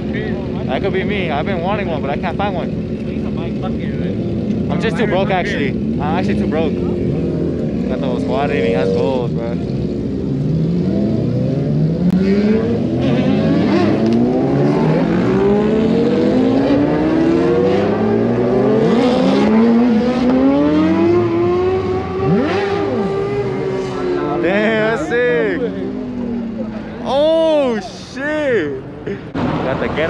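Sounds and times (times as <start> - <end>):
car engines accelerating: 0.0 - 30.0.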